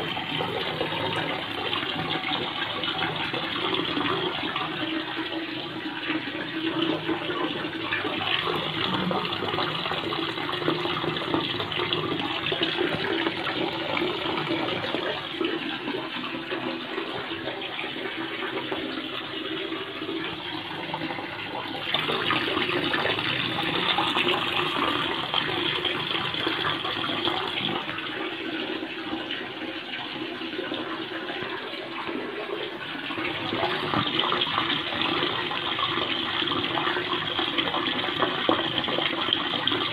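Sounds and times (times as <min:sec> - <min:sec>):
aquarium water rushing and splashing: 0:00.0 - 0:39.9.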